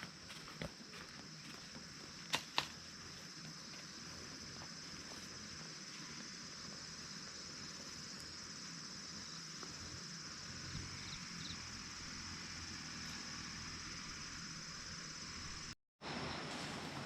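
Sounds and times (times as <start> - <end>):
insects chirring: 0.0 - 16.5.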